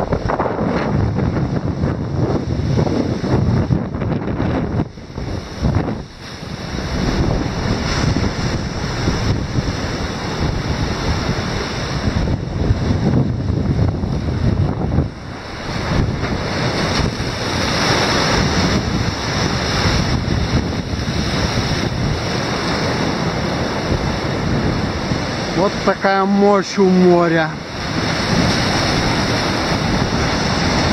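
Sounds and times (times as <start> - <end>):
surf breaking on rocks: 0.0 - 30.9
wind buffeting microphone: 0.0 - 30.9.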